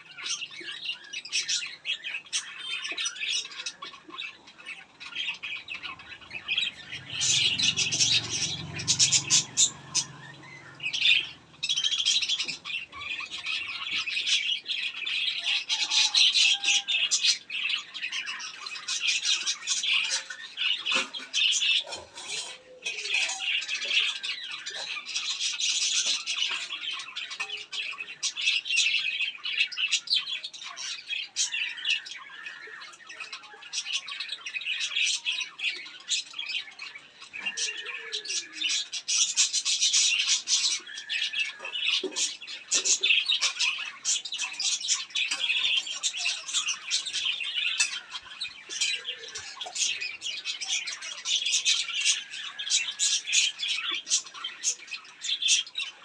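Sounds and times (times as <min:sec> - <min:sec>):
birds chattering and squawking: 0:00.0 - 0:56.0.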